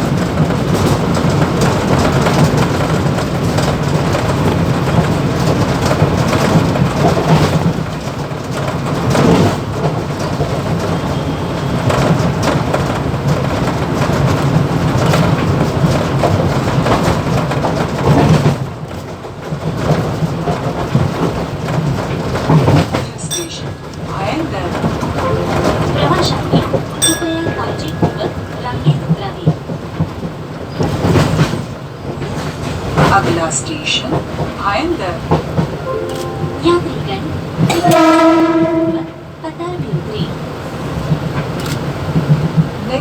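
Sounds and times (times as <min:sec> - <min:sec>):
electric train rumble and hum: 0:00.0 - 0:43.0.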